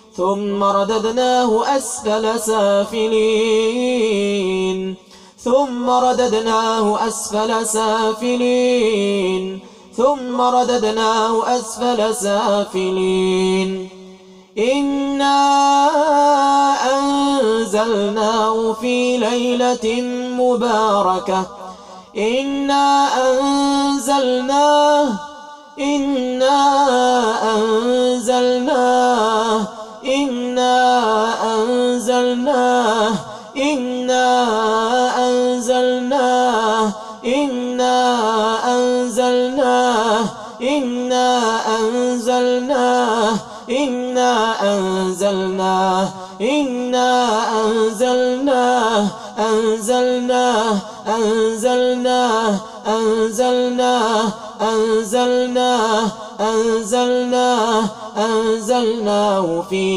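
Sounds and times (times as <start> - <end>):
person chanting recitation: 0.0 - 59.9.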